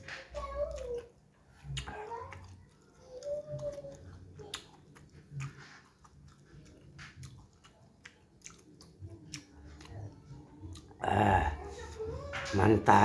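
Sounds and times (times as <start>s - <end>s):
wet chewing of noodles: 0.6s - 11.6s.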